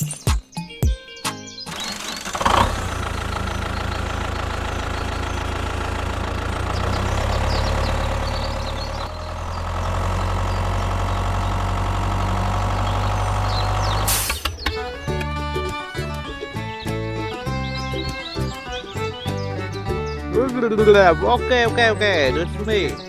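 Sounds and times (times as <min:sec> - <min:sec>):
engine idling: 0:01.7 - 0:20.2.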